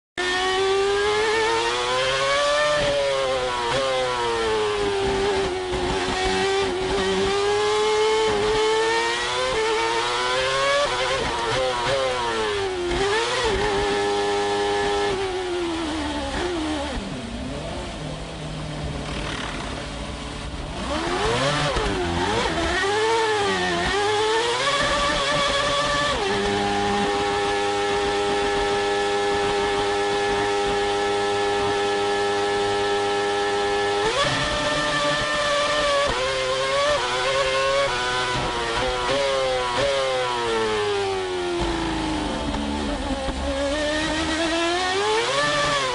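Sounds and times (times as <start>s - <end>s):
racing car engine shifting gears: 0.2s - 45.9s.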